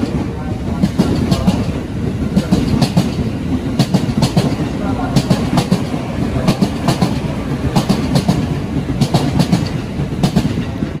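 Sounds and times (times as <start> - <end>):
electric train rumble: 0.0 - 11.0
wheels clacking over rail joints: 0.0 - 11.0.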